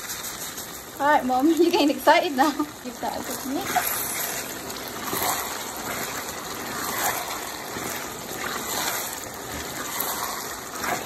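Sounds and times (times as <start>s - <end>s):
spatula stirring: 0.0s - 2.1s, 2.7s - 11.0s
food sizzling in a wok: 0.0s - 11.0s.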